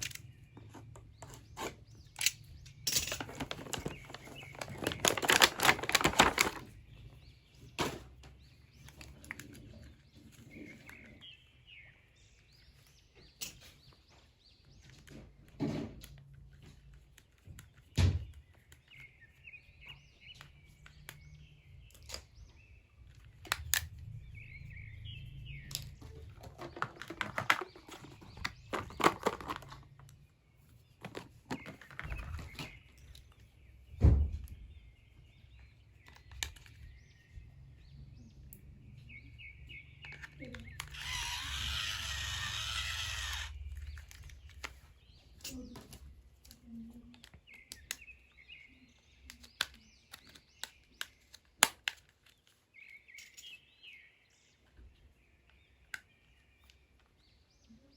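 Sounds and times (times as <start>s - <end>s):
toys and packaging clicking: 0.0s - 11.4s, 12.2s - 24.2s, 25.6s - 33.6s, 35.5s - 37.4s, 39.6s - 57.3s
birds chirping: 0.0s - 57.9s.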